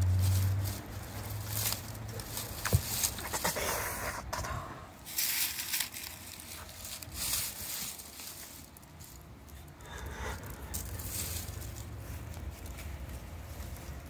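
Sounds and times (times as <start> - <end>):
dry vines rustling: 0.0 - 14.0
hands digging in soil: 0.0 - 14.0.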